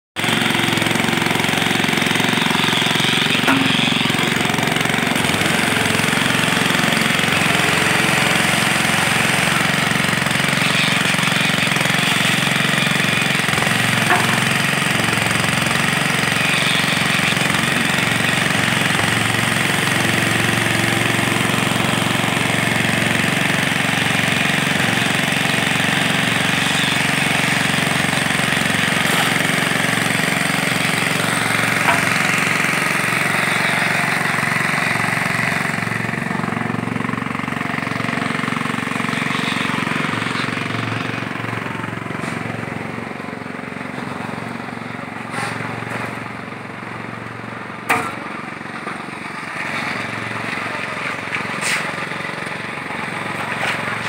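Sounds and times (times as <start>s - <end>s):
concrete vibrator engine buzzing: 0.2s - 54.0s.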